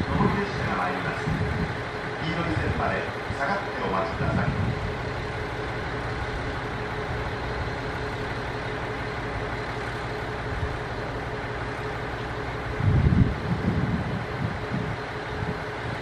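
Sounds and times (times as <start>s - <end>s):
distant electric train hum: 0.0s - 16.0s.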